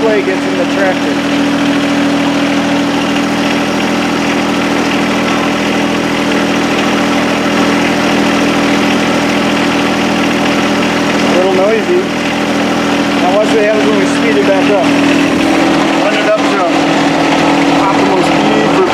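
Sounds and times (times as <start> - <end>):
diesel tractor engine idling: 0.0 - 18.9
snowblower turning: 0.0 - 18.9.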